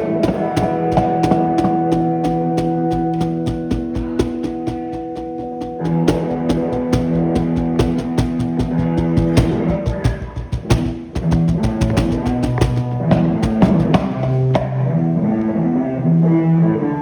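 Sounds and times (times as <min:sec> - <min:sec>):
drums fast beat: 0:00.0 - 0:14.7
guitar: 0:00.0 - 0:17.0.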